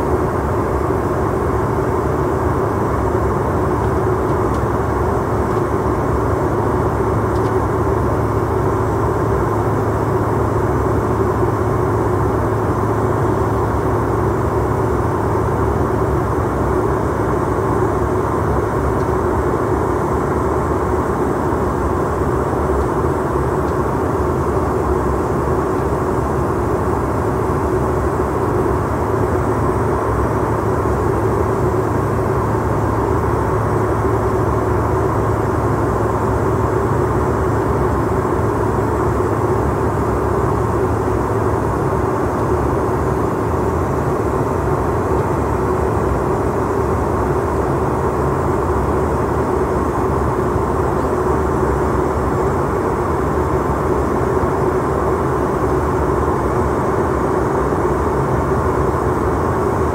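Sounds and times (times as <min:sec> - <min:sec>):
low jet engine hum: 0:00.0 - 0:59.9.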